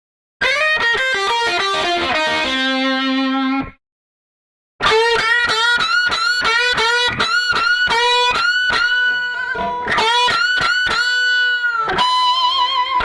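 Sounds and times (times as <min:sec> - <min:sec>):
plucked guitar riff: 0:00.4 - 0:03.8, 0:04.8 - 0:13.0.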